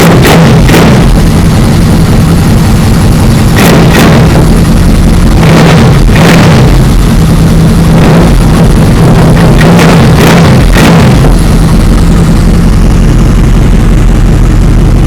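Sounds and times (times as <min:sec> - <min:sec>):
engine throttle blips: 0:00.0 - 0:15.0
motorcycle engine idling: 0:00.0 - 0:15.0.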